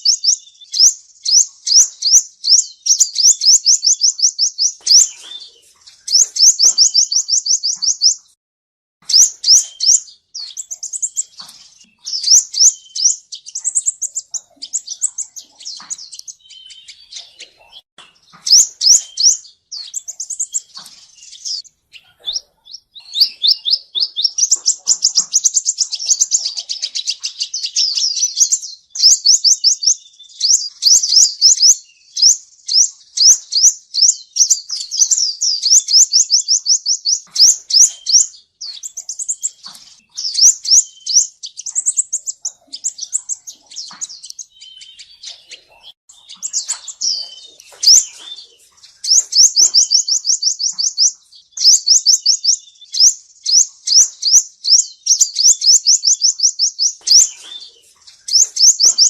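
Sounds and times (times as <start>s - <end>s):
bird singing high trills: 0.0s - 8.4s, 9.0s - 59.0s.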